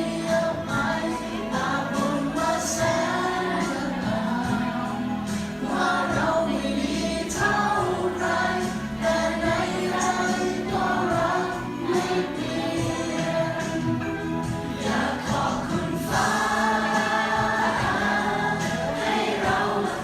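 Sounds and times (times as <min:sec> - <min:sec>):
students singing in chorus: 0:00.0 - 0:20.0.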